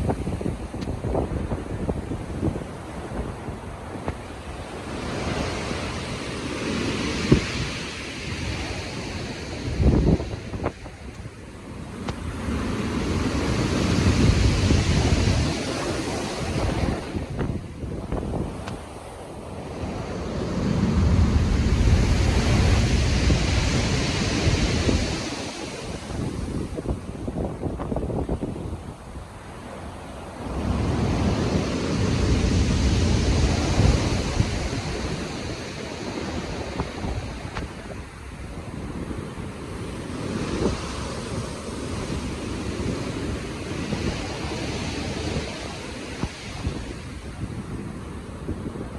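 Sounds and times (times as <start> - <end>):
ocean waves breaking: 0.0 - 48.9
wind: 0.0 - 48.9.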